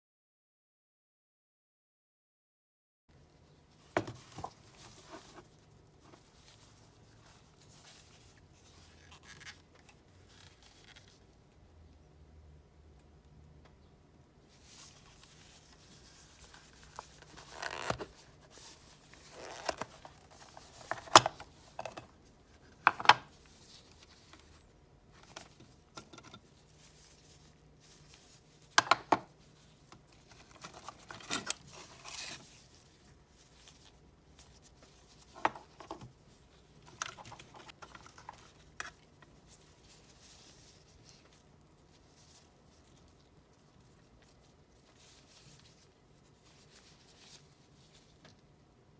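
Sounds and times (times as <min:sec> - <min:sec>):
rustles and scrapes: 0:03.3 - 0:11.4, 0:14.5 - 0:48.6.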